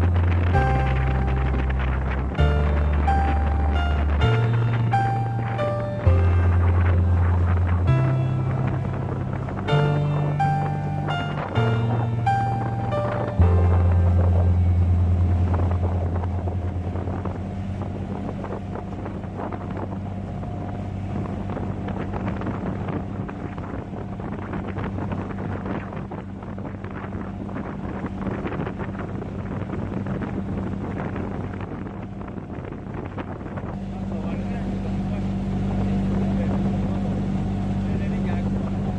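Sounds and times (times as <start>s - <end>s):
motorboat engine humming: 0.0s - 38.9s
wind buffeting microphone: 0.0s - 38.9s.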